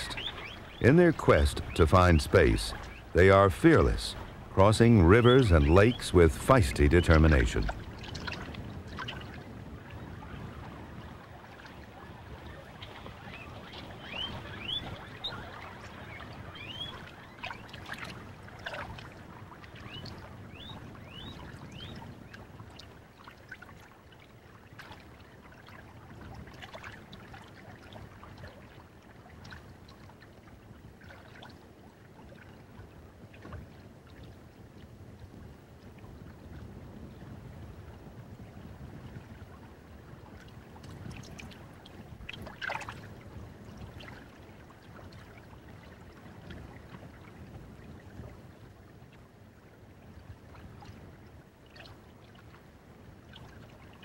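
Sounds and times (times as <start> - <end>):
water lapping and sloshing: 0.0 - 54.0.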